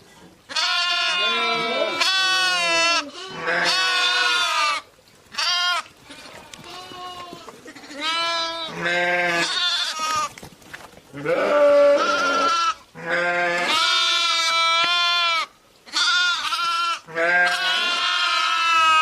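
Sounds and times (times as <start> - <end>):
sheep bleating: 0.5 - 10.3, 11.2 - 19.0.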